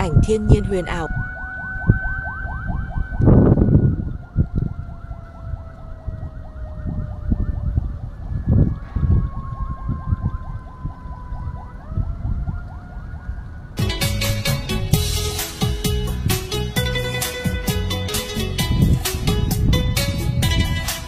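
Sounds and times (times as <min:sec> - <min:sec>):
siren wailing: 0:00.0 - 0:14.7, 0:15.3 - 0:21.0
low rumbles: 0:00.0 - 0:21.0.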